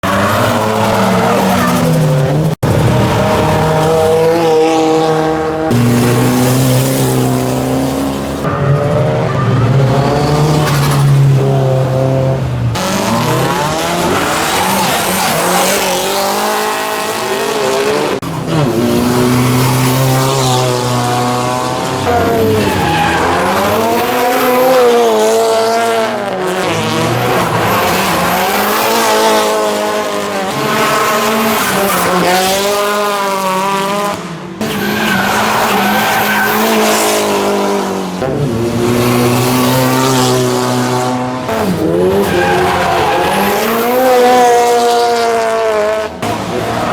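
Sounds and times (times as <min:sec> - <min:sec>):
car engines revving hard: 0:00.0 - 0:46.9.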